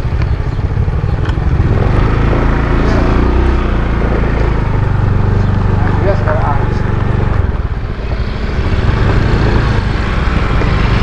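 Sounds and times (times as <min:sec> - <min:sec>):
road noise: 0:00.0 - 0:11.0
scooter engine running: 0:00.0 - 0:11.0.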